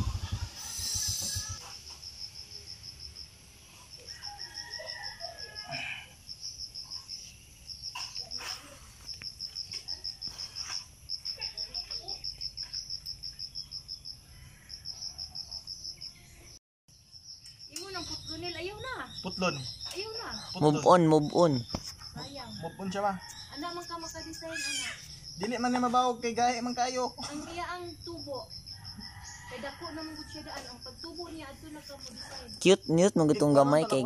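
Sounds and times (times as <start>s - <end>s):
insect chirping trill: 0.0s - 34.0s.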